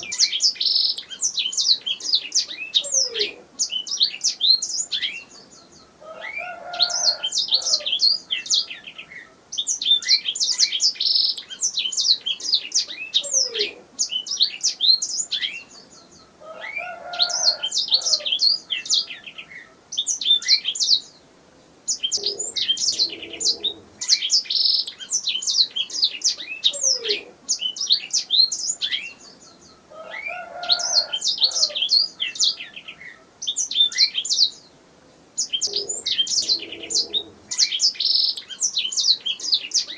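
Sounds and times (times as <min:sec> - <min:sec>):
canary singing trills: 0:00.0 - 0:21.2, 0:21.8 - 0:34.7, 0:35.4 - 0:39.9.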